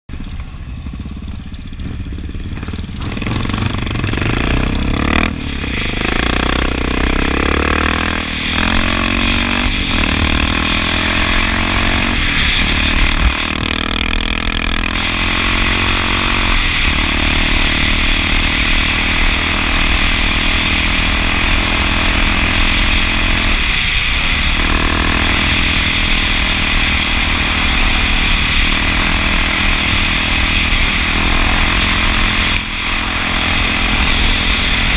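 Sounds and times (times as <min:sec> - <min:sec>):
motorcycle engine changing gears: 0:00.1 - 0:34.9
wind rush on microphone: 0:00.7 - 0:34.9.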